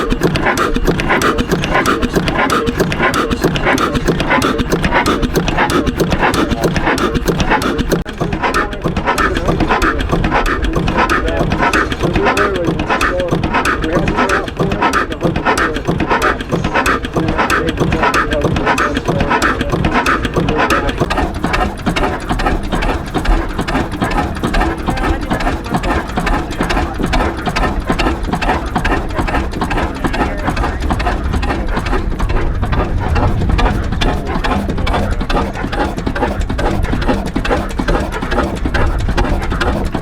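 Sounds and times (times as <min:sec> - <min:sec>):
stationary engine running: 0:00.0 - 0:40.0.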